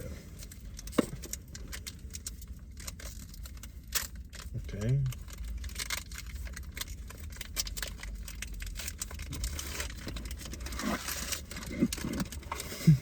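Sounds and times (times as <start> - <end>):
foil wrapper crinkling: 0.4 - 13.0.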